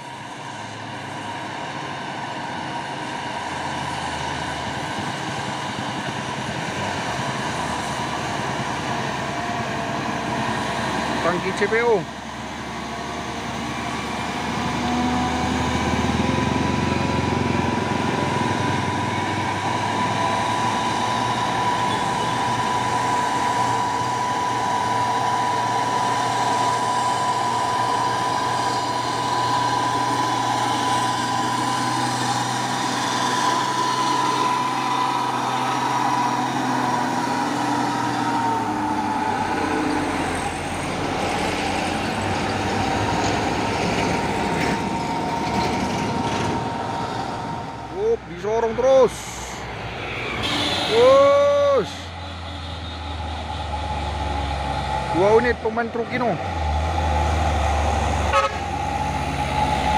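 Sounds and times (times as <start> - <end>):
high whine: 0.0 - 56.1
truck diesel engine drone: 0.0 - 59.9.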